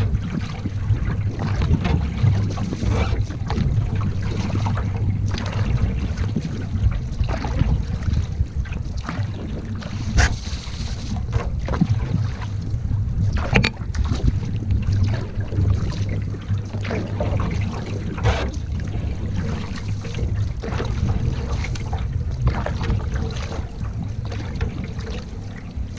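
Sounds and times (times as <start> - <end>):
paddle splashing through water: 0.0 - 25.9
wind buffeting microphone: 0.0 - 25.9.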